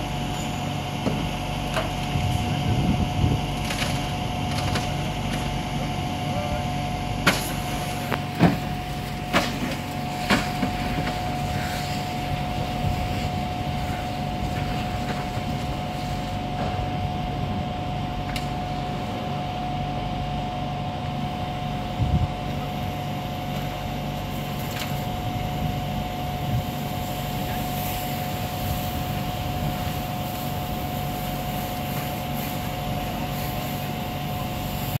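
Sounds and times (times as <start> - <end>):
pump engine humming: 0.0 - 35.0.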